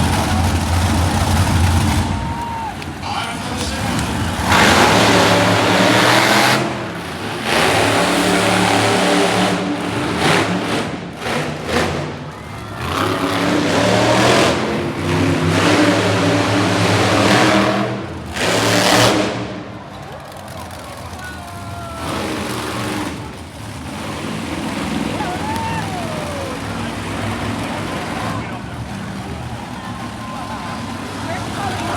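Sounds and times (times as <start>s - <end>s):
monster truck engine revving: 0.0s - 31.9s.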